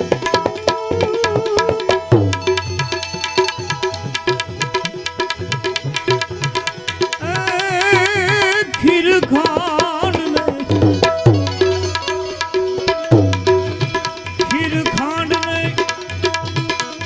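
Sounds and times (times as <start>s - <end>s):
tabla rhythm: 0.0s - 17.0s.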